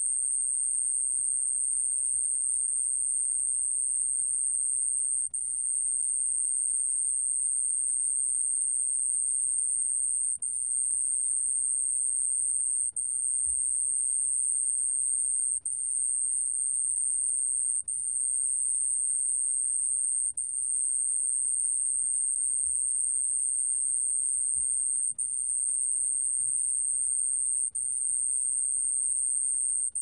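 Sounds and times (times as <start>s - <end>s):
cricket high-pitched trill: 0.0s - 30.0s.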